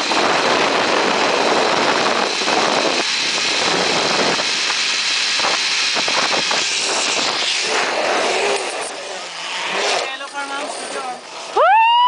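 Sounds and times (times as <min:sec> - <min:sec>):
wind rushing over microphone: 0:00.0 - 0:11.3
zipline trolley running on cable: 0:00.0 - 0:12.0.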